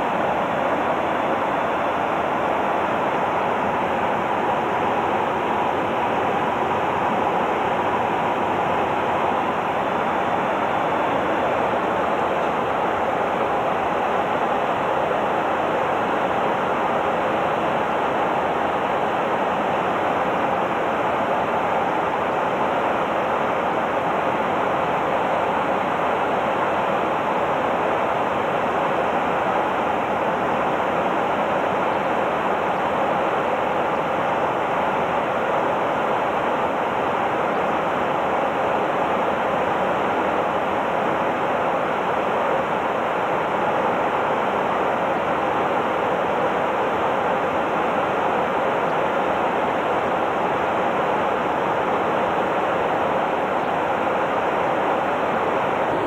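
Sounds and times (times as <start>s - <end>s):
jet cabin engine and airflow hiss: 0.0s - 56.0s.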